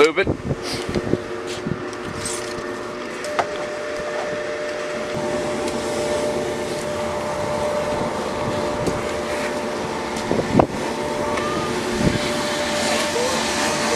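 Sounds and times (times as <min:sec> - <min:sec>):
cement mixer motor humming: 0:00.0 - 0:13.9.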